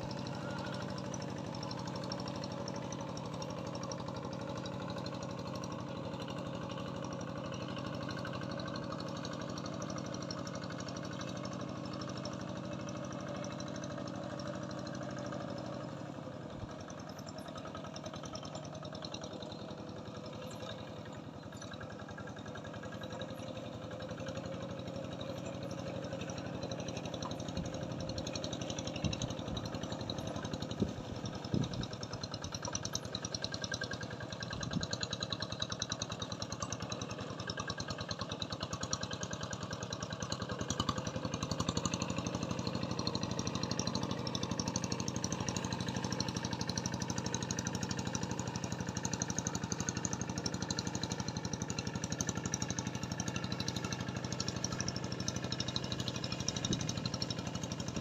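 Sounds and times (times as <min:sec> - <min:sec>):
small engine running steadily: 0:00.0 - 0:58.0.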